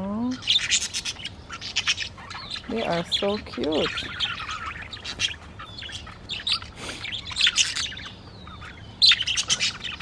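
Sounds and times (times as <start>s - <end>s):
budgies chattering: 0.0s - 10.0s.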